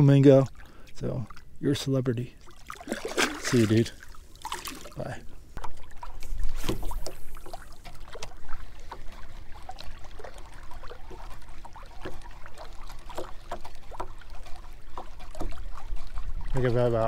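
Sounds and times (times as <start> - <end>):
waves lapping against canoe hull: 0.0 - 17.0.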